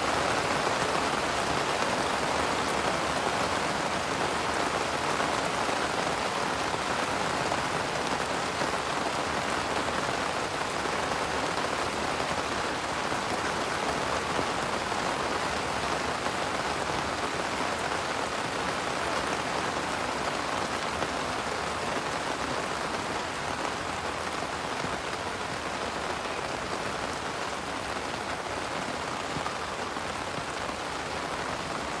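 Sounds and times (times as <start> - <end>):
rain pattering on leaves: 0.0 - 32.0.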